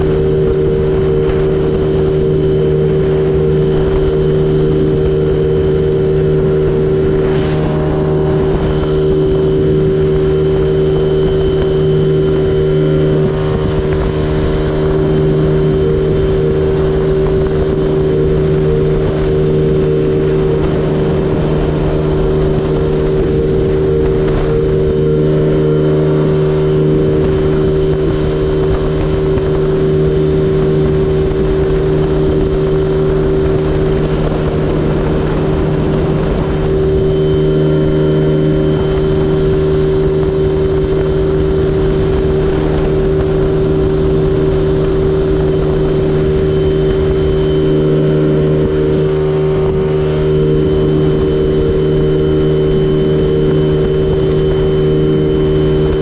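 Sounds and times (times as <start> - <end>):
scooter engine droning: 0.0 - 56.0
wind on microphone: 0.0 - 56.0.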